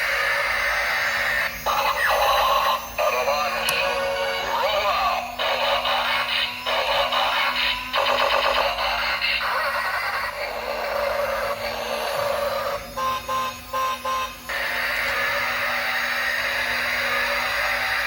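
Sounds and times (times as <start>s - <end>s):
electronic toy engine sound: 0.0s - 18.0s.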